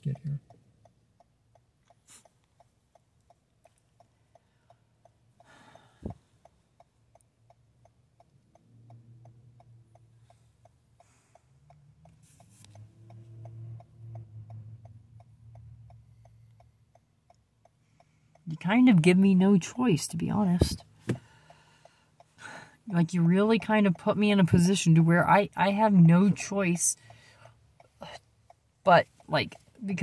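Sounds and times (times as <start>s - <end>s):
hazard-light flasher ticking: 0.0s - 30.0s.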